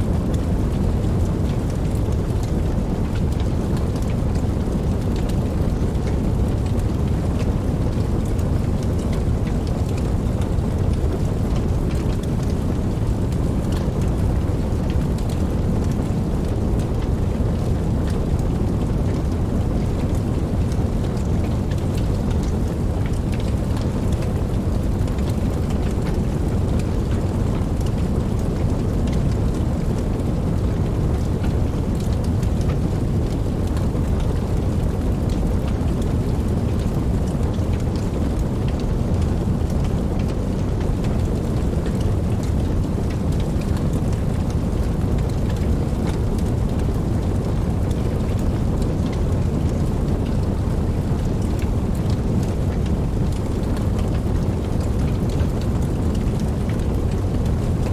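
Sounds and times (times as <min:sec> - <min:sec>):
rain with sharp drop ticks: 0:00.0 - 0:57.9.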